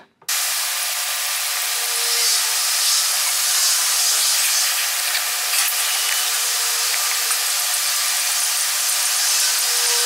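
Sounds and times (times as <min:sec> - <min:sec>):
steady hiss: 0:00.3 - 0:10.0.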